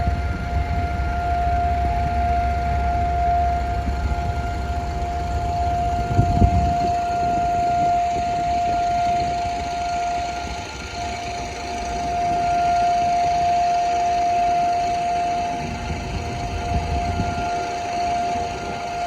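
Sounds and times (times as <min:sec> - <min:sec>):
civil defense siren steady tone: 0:00.0 - 0:19.0.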